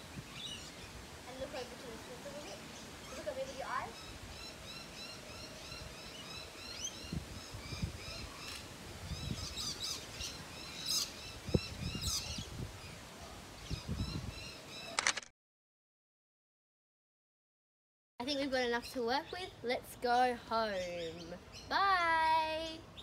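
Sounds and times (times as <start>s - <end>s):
small birds chirping: 0.0s - 15.0s, 18.3s - 23.0s.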